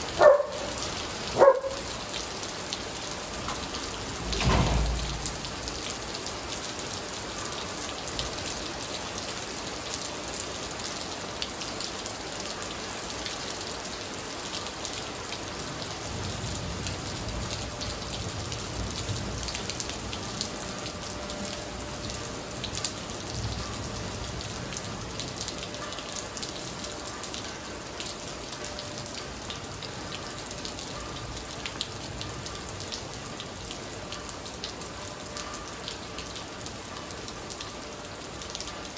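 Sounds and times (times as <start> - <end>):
heavy rain on tiled floor: 0.0 - 38.9.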